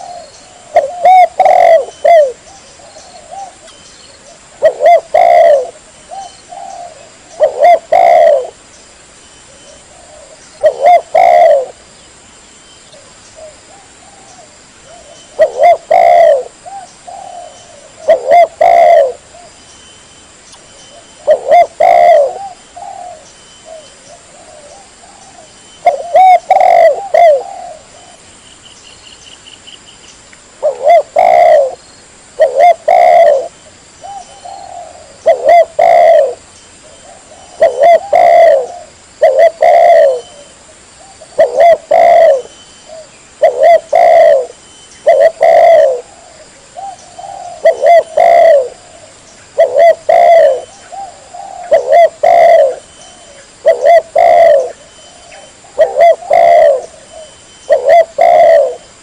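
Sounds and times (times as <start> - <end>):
dove cooing: 0.0 - 8.6, 9.5 - 11.8, 13.0 - 19.6, 20.9 - 28.3, 30.6 - 31.8, 32.4 - 59.0.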